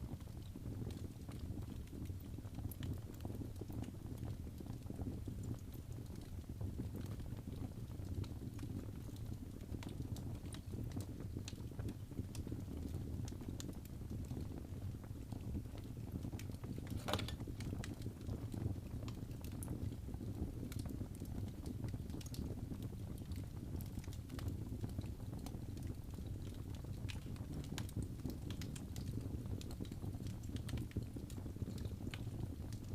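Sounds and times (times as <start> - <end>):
fire crackling and popping: 0.0 - 32.9
low fire rumble: 0.0 - 32.9.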